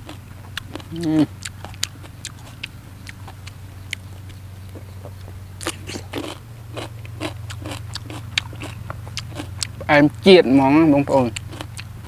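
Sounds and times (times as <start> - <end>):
person chewing crunchy vegetables: 0.0 - 9.9, 11.1 - 12.0
steady low hum: 0.0 - 12.0.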